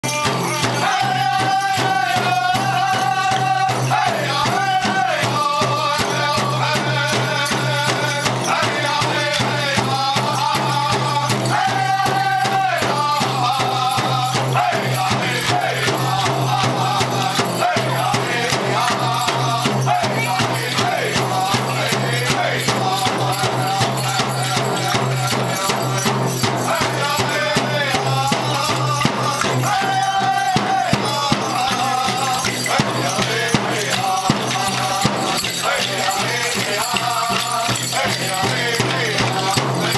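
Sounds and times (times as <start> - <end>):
bells jingling: 0.0 - 39.9
group singing: 0.0 - 39.9
steady drumbeat: 0.0 - 39.9.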